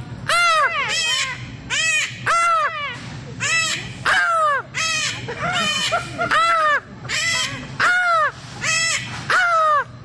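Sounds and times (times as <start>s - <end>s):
parrot squawking: 0.2s - 10.0s.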